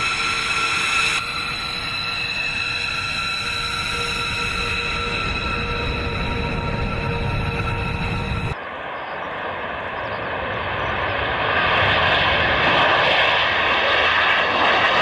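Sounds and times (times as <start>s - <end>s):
faint jet whine: 0.0s - 15.0s
jet engines rushing: 0.0s - 15.0s.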